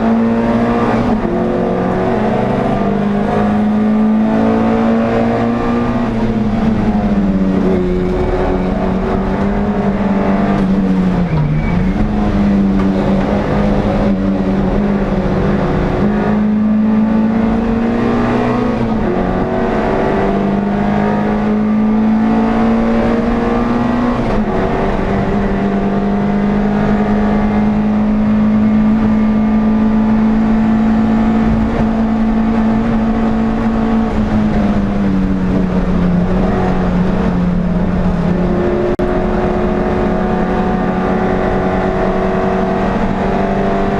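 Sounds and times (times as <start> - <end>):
racing car engine at high revs: 0.0 - 43.9.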